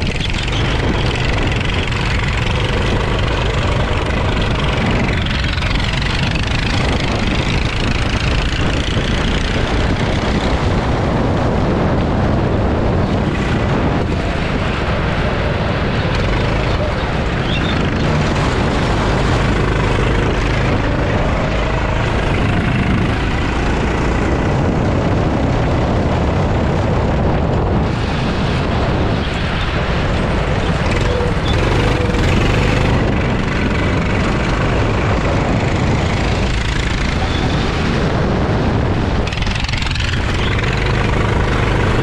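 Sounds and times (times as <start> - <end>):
go-kart engine running: 0.0 - 42.0
wind buffeting on microphone: 0.0 - 42.0.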